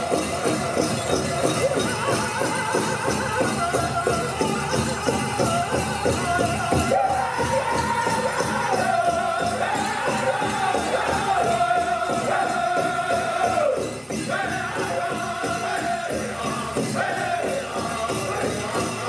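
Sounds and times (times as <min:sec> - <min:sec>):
group singing high-pitched phrases: 0:00.0 - 0:19.0
jingling bells: 0:00.0 - 0:19.0
steady big drumbeat: 0:00.0 - 0:19.0.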